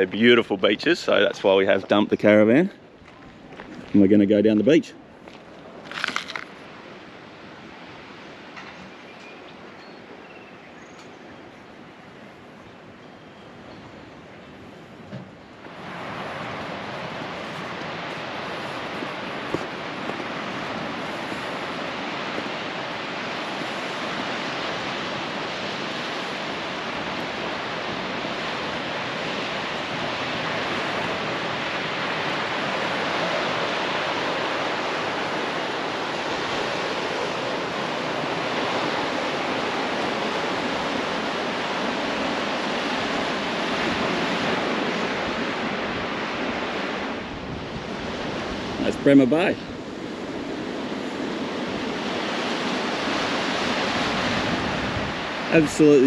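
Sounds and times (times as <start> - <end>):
ocean surf washing onto beach: 0.0 - 10.3, 13.8 - 56.0.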